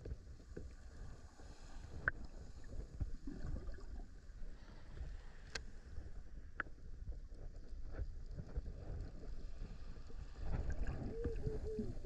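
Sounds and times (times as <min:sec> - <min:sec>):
underwater rumble of moving water: 0:00.0 - 0:12.0.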